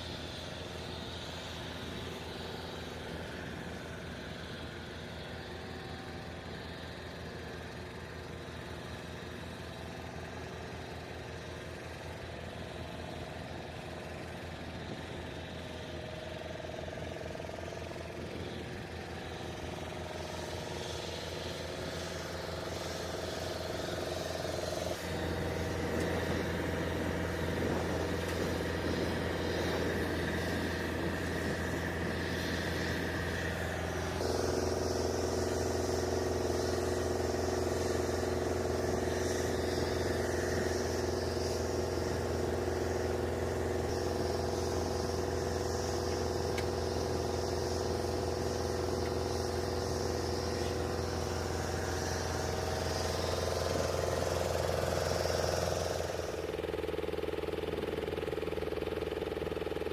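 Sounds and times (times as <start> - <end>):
engine drone with held tones: 0.0 - 59.9.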